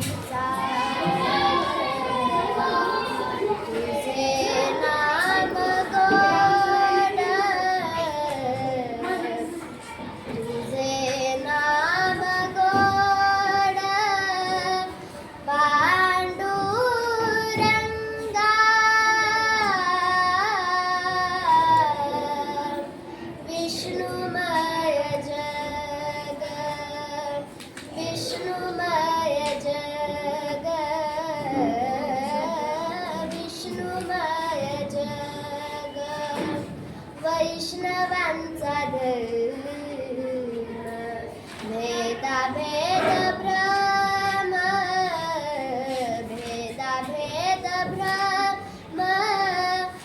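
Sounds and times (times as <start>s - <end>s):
child singing: 0.0s - 50.0s.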